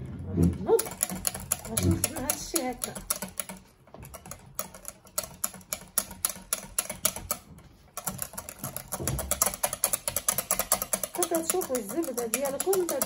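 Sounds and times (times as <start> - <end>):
whisk clicking against glass bowl: 0.7 - 13.0.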